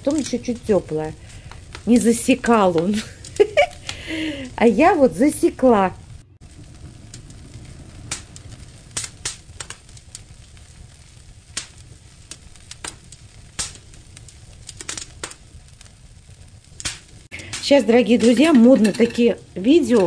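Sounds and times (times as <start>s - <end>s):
sharp pops of fire: 0.0s - 4.9s, 5.9s - 20.0s
firewood crackling: 0.0s - 20.0s
low rumble of fire: 0.0s - 20.0s.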